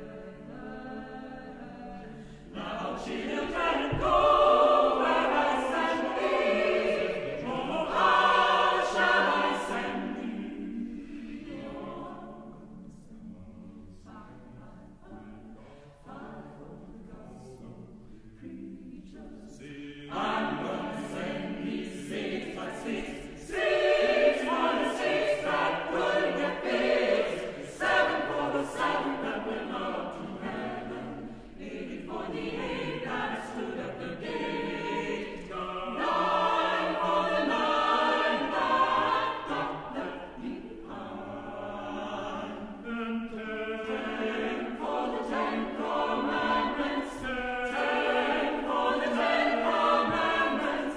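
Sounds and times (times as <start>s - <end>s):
chamber choir singing: 0.0s - 50.9s.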